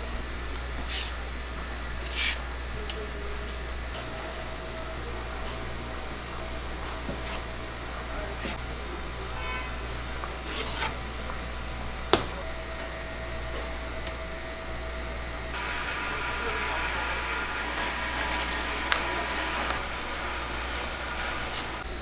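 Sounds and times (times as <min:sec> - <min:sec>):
constant low hum: 0:00.0 - 0:22.0.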